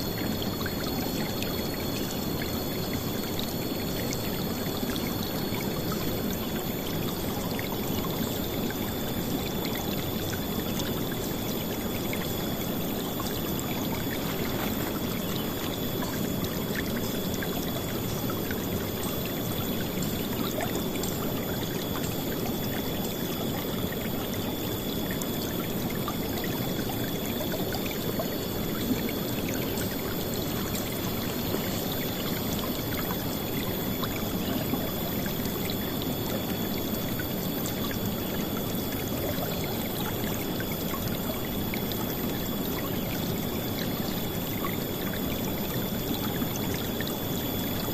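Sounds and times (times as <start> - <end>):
faint high whine: 0.0 - 47.9.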